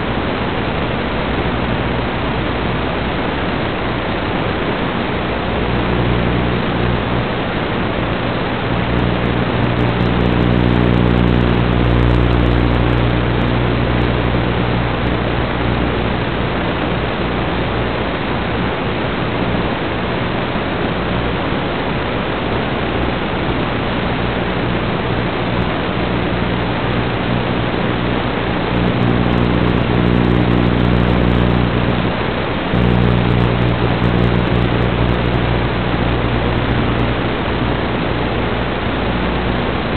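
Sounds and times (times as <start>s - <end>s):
low steady hum: 0.0s - 39.9s
video receiver static hiss: 0.0s - 39.9s.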